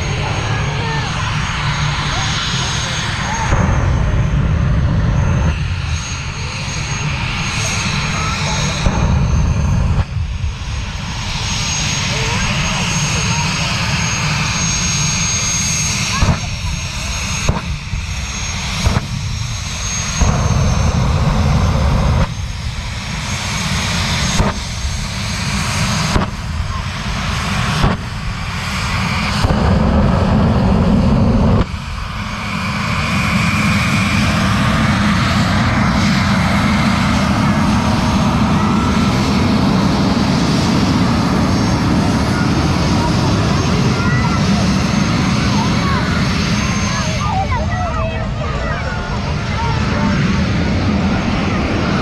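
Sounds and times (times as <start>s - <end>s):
jet engines roaring: 0.0s - 52.0s.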